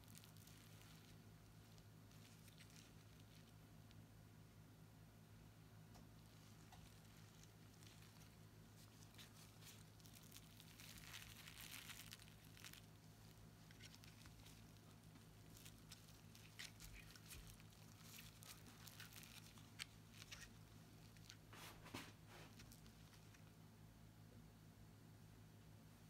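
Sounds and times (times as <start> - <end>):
plastic wrap rustling: 0.0 - 3.7, 6.0 - 23.5
plastic glove crinkling: 0.0 - 4.0, 5.9 - 23.6
dry cones crackling: 0.0 - 4.1, 5.9 - 23.6
low steady hum: 0.0 - 26.0.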